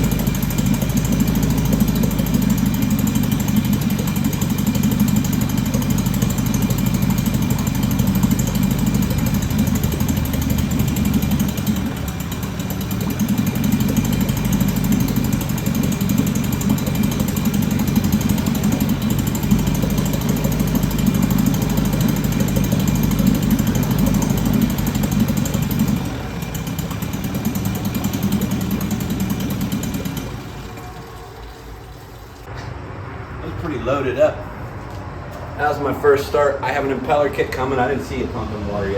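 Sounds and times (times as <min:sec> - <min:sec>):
outboard motor running unsteadily: 0:00.0 - 0:31.8.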